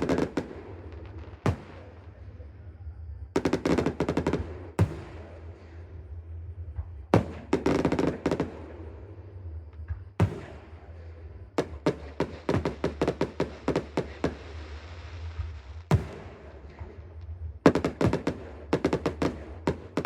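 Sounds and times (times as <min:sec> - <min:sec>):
fireworks banging: 0:00.0 - 0:02.2, 0:03.4 - 0:05.9, 0:06.7 - 0:09.0, 0:09.8 - 0:20.0
fireworks crackling: 0:00.0 - 0:02.5, 0:03.4 - 0:06.2, 0:06.8 - 0:09.2, 0:09.9 - 0:20.0
rapid sharp firework reports: 0:00.0 - 0:20.0.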